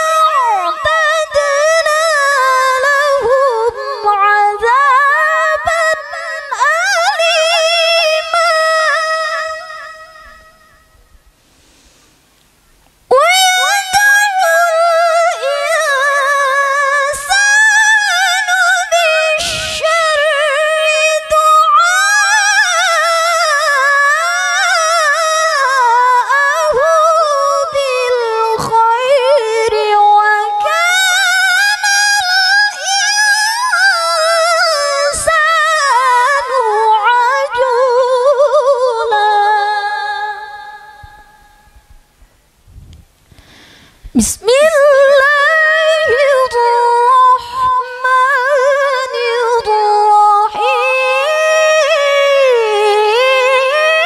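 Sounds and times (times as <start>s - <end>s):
woman reciting melodically: 0.0s - 10.9s, 13.1s - 41.8s, 44.1s - 54.0s.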